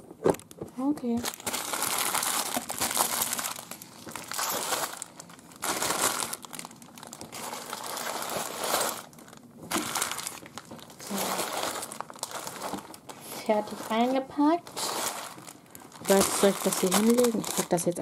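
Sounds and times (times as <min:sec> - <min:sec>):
packaging bags crinkling: 0:00.2 - 0:18.0.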